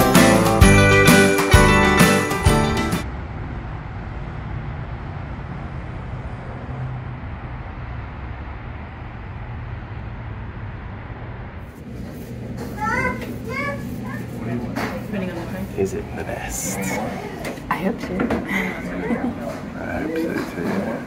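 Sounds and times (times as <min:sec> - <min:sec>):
distant road traffic rumble: 0:03.0 - 0:21.0.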